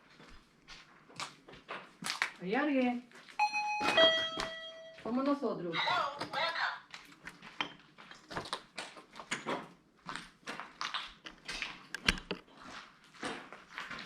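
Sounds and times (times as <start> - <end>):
footsteps: 0.0 - 14.0.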